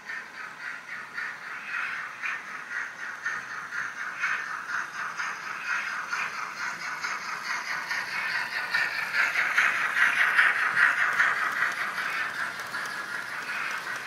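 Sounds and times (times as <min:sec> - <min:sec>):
model train wheels rattling: 0:00.0 - 0:14.0.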